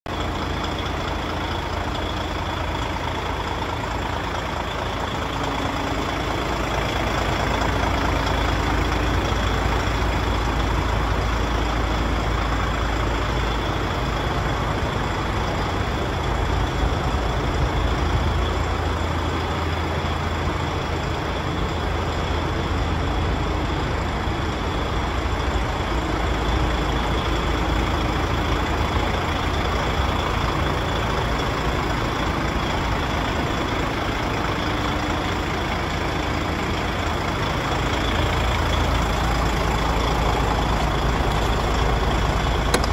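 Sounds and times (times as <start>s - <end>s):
diesel truck engine idling: 0.1s - 42.9s.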